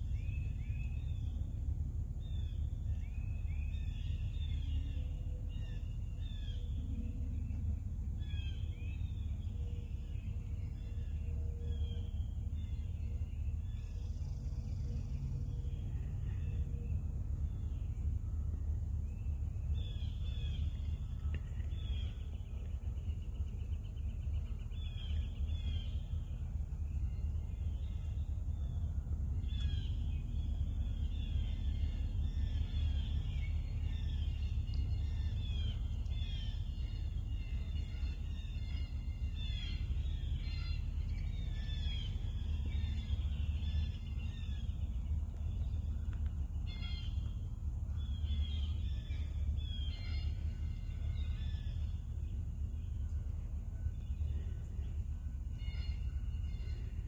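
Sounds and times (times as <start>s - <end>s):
low rumble: 0.0s - 57.0s
songbirds chirping: 0.0s - 57.0s.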